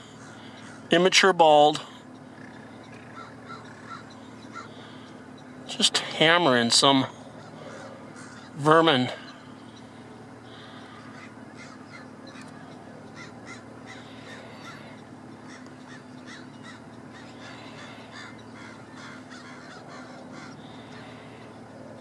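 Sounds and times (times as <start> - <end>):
birds calling harshly: 0.0 - 22.0.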